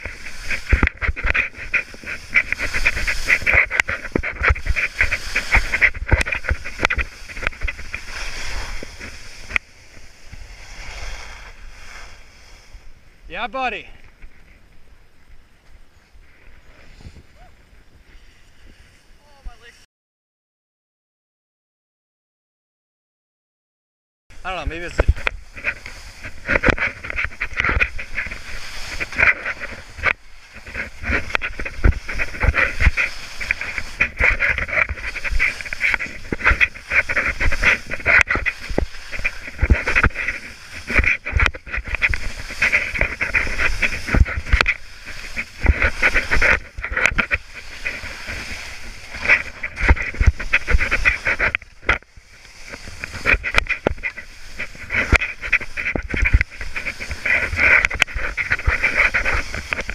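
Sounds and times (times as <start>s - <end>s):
skis hissing over snow: 0.0s - 14.0s, 16.1s - 19.8s, 24.4s - 59.9s
wind rumble on microphone: 0.0s - 19.8s, 24.3s - 59.9s.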